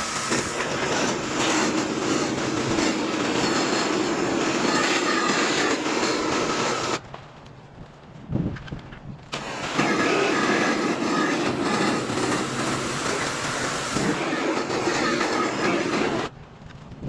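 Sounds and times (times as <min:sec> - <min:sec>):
pressure washer spraying: 0:00.0 - 0:07.0, 0:09.4 - 0:16.3.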